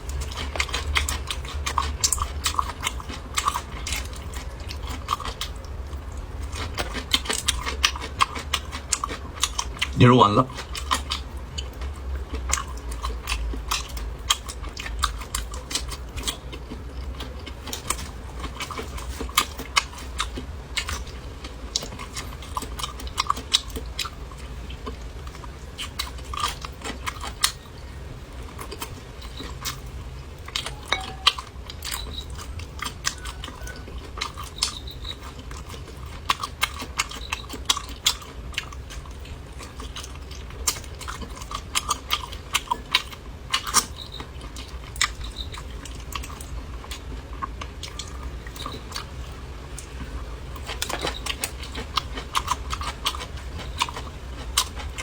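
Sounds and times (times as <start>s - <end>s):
person chewing and biting: 0.0s - 27.6s, 28.4s - 55.0s
low steady hum: 0.0s - 55.0s.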